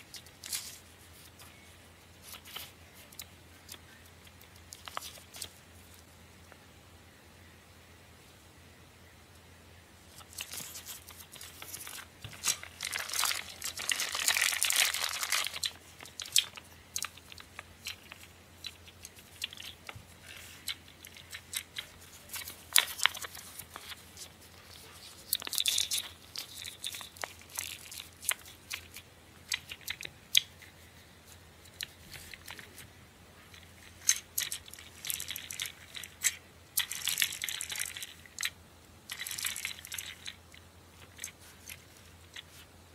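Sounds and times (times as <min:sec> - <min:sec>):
plastic wrapper and paper crinkling: 0:00.0 - 0:06.0, 0:10.1 - 0:42.7.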